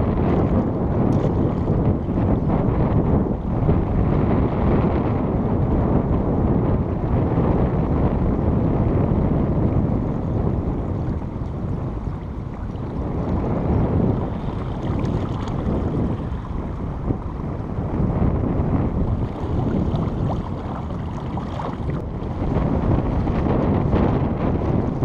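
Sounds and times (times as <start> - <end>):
shallow river water: 0.0 - 25.0
wind buffeting microphone: 0.0 - 25.0.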